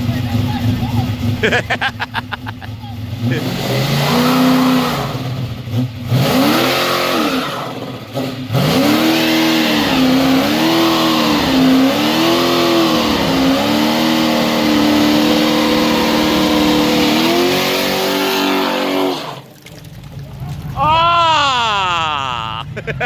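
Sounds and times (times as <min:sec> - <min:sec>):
car engine revving: 0:00.0 - 0:19.5.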